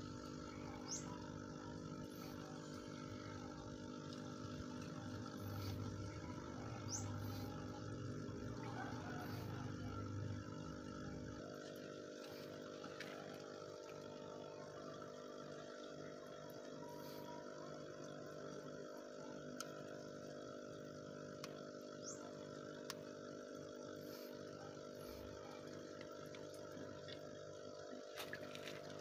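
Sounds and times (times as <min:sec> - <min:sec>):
air pump humming: 0:00.0 - 0:29.0
bubbles fizzing: 0:00.0 - 0:29.0.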